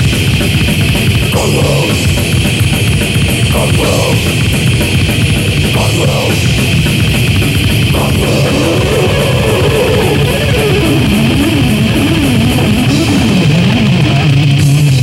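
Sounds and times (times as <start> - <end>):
distorted electric guitars: 0.0 - 15.0
fast dense drumming: 0.0 - 15.0.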